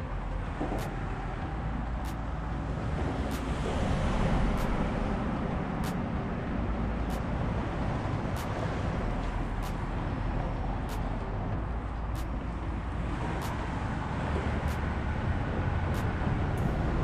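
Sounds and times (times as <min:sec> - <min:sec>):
wind rumbling over microphone: 0:00.0 - 0:17.0.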